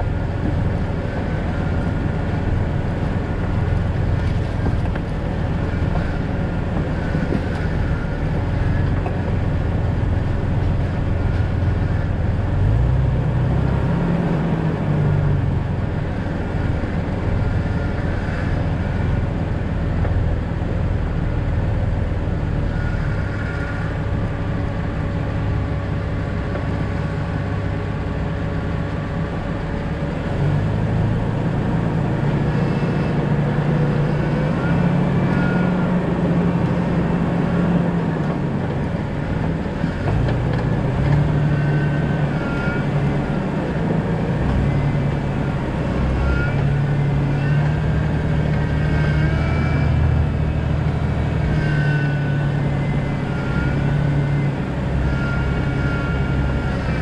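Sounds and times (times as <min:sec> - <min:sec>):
car engine driving: 0:00.0 - 0:57.0
road noise: 0:00.0 - 0:57.0.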